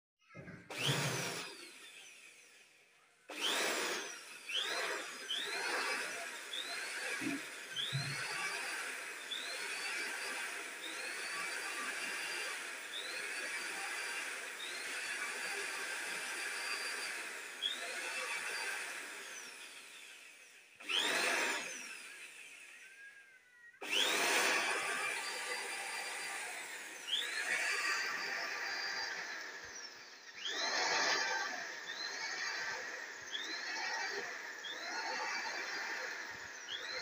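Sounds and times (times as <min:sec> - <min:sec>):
electric drill whining: 0:00.3 - 0:37.0
cloth rubbing against drill chuck: 0:00.7 - 0:02.1, 0:03.4 - 0:20.0, 0:23.8 - 0:37.0.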